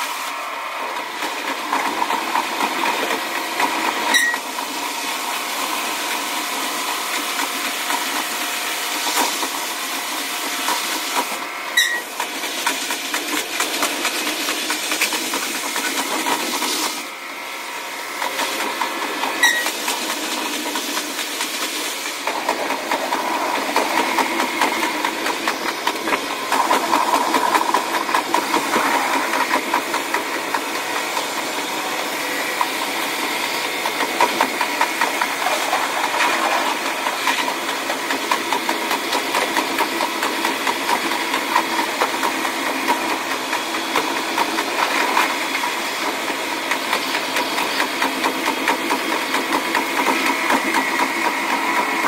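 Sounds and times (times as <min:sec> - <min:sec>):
railcar running hiss: 0:00.0 - 0:52.0.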